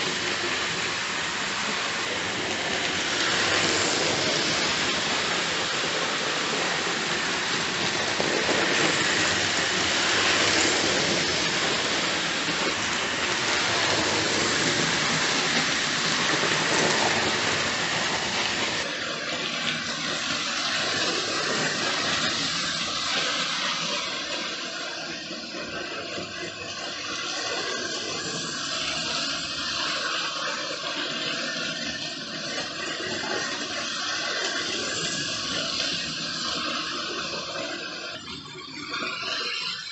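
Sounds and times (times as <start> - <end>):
model trains rushing on track: 0.0 - 39.9.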